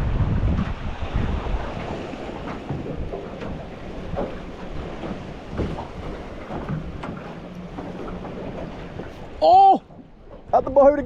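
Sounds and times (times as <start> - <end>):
waves lapping against boat hull: 0.0 - 11.0
wind buffeting microphone: 0.0 - 11.0.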